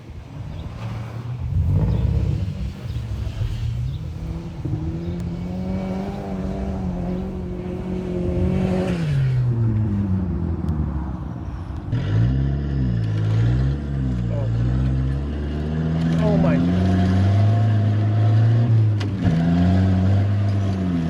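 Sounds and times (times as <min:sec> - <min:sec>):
car engine revving under load: 0:00.0 - 0:21.0.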